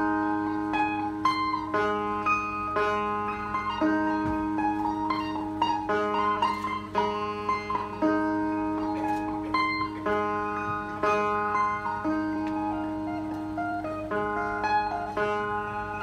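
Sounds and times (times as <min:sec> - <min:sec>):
plucked lute melody over drone: 0:00.0 - 0:16.0.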